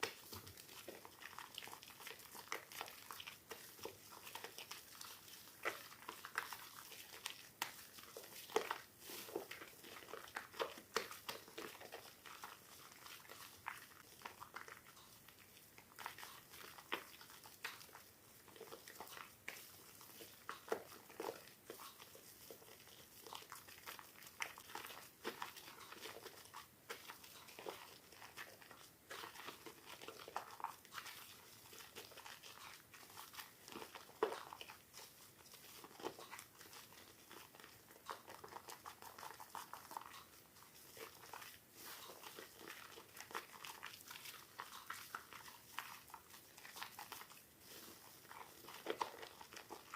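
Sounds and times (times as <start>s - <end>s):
wet soap crackling: 0.0s - 49.9s.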